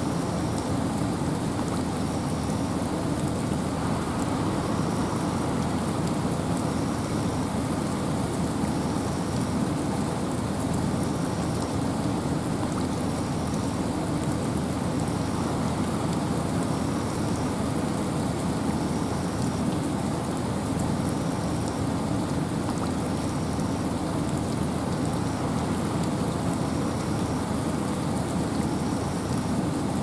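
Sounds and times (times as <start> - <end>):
rain and wind in forest: 0.0 - 30.0.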